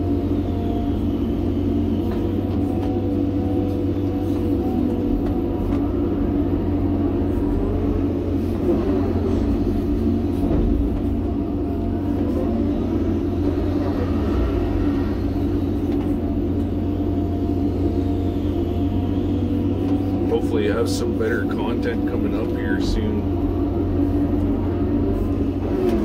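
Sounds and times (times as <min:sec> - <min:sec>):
excavator diesel engine running: 0:00.0 - 0:26.0
hydraulic whines: 0:00.0 - 0:26.0.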